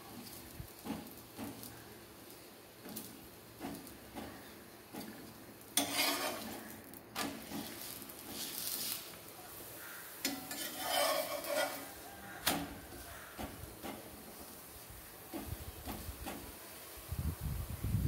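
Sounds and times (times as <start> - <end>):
spatula scraping: 0.0 - 9.2, 9.8 - 16.5
flatbread sizzling in oil: 0.0 - 18.0.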